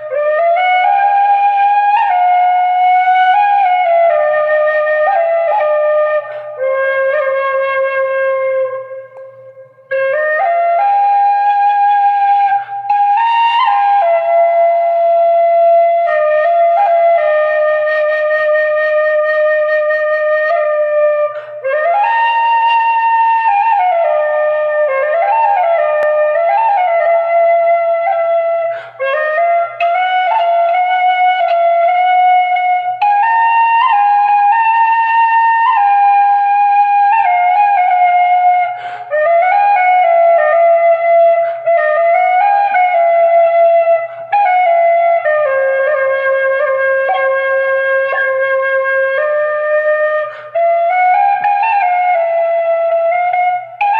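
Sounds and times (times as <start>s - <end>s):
flute melody: 0.0s - 53.9s.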